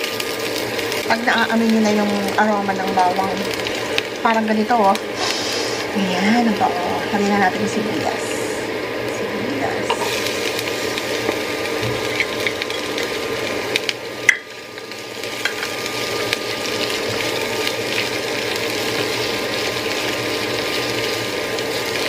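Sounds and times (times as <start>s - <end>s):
onion and garlic sizzling in oil: 0.0s - 22.0s.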